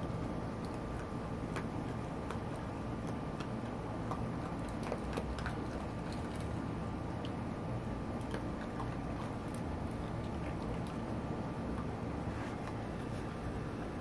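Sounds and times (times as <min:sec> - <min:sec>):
kibble crunching: 0:00.0 - 0:13.4.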